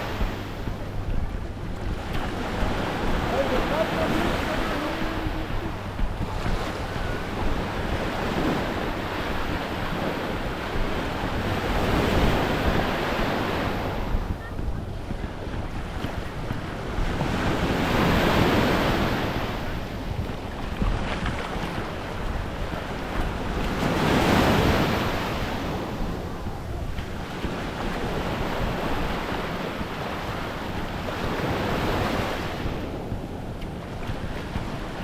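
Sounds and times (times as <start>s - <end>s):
small waves breaking on beach: 0.0s - 35.0s
wind rumbling on microphone: 0.0s - 35.0s.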